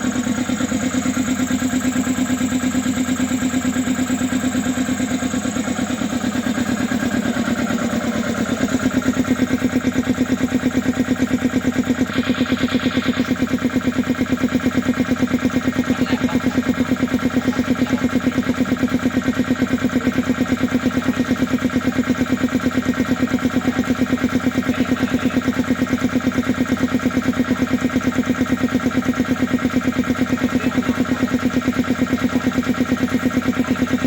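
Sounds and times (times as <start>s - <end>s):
piston air compressor pulsing: 0.0s - 34.0s.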